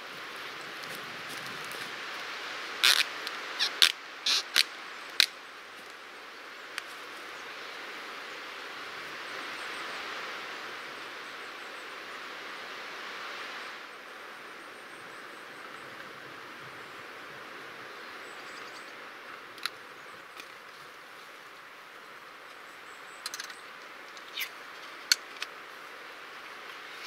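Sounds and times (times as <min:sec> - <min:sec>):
wind through pine trees: 0:00.0 - 0:27.0.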